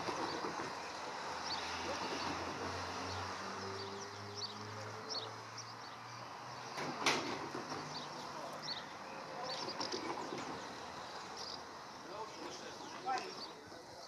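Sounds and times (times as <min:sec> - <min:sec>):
small birds chirping: 0:00.2 - 0:14.0.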